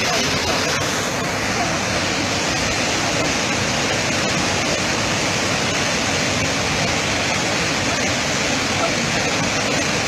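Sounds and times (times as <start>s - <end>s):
water rushing over waterfall: 0.0s - 10.0s.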